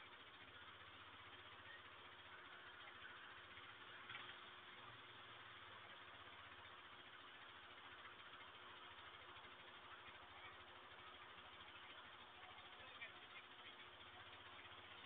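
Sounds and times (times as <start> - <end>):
microphone hiss: 0.0 - 15.0
pulsing mechanical hum: 0.0 - 15.0.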